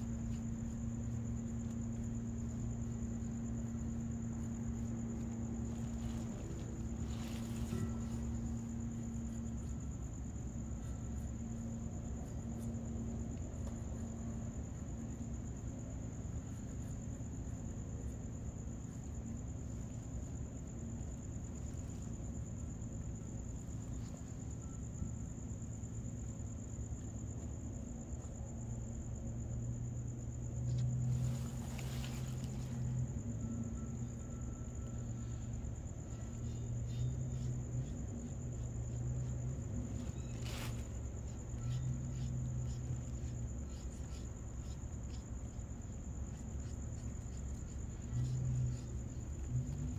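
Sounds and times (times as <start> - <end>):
cricket trilling: 0.0 - 49.9
low steady hum: 0.0 - 49.9.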